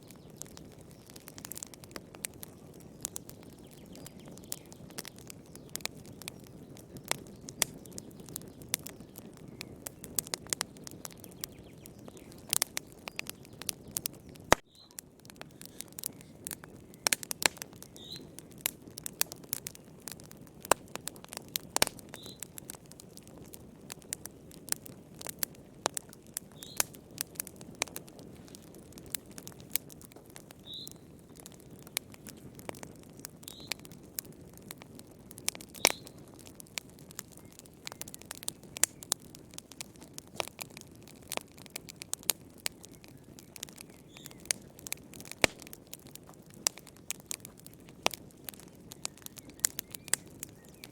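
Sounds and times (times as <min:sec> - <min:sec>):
fire crackling and popping: 0:00.0 - 0:50.9
low rumble of flame: 0:00.0 - 0:50.9.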